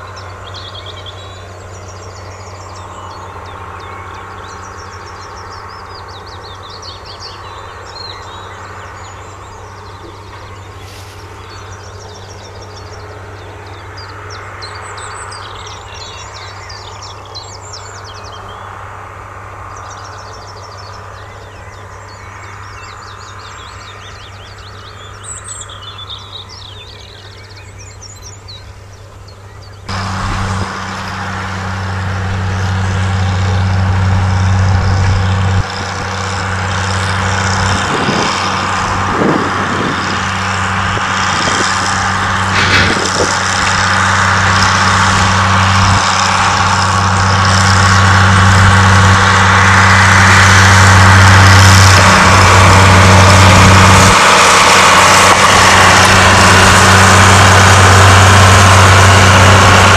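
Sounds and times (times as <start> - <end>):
locomotive diesel engine hauling train: 0.0 - 59.9.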